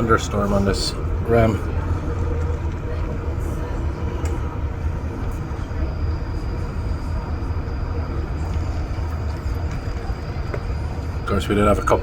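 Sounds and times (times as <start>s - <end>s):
train rumbling at speed: 0.0s - 12.0s.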